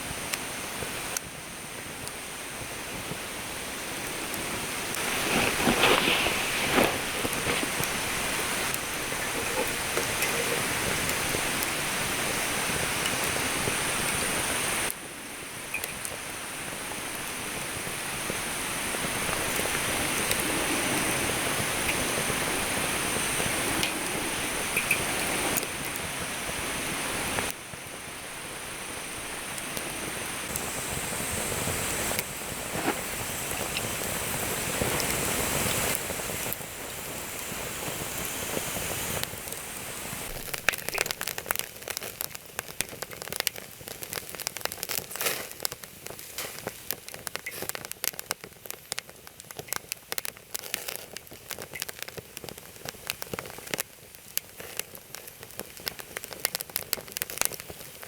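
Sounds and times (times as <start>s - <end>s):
campfire hiss: 0.0s - 58.0s
fire crackling and popping: 0.0s - 58.0s.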